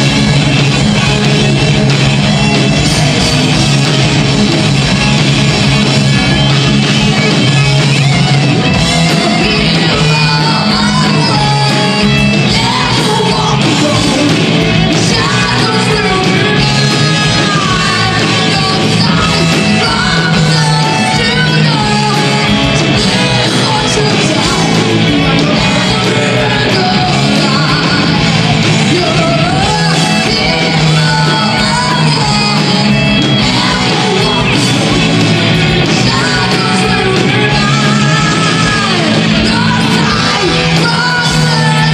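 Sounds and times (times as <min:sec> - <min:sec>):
distorted electric guitar: 0:00.0 - 0:41.9
drums: 0:00.0 - 0:41.9.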